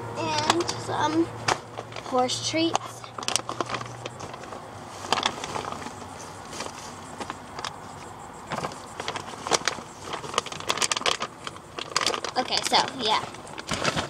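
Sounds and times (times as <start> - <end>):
bag of treats crinkling: 1.6 - 7.8, 8.5 - 14.0.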